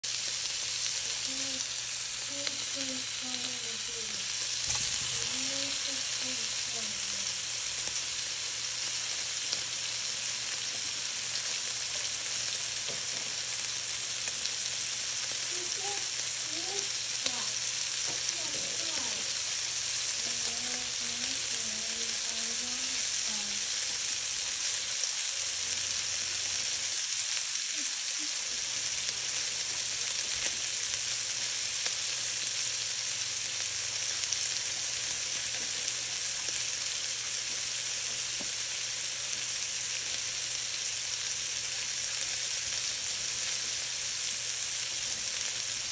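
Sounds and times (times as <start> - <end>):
bacon sizzling in a wok: 0.0 - 45.9.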